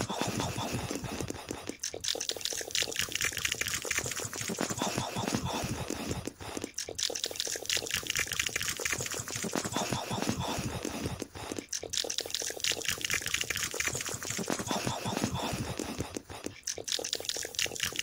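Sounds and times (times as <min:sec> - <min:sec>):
wet chewing and crunching: 0:00.0 - 0:18.0.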